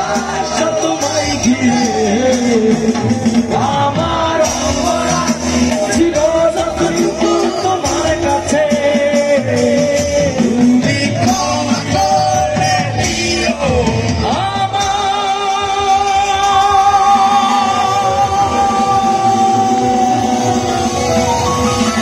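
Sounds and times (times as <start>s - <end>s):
live rock band playing: 0.0s - 22.0s
man singing: 0.0s - 22.0s.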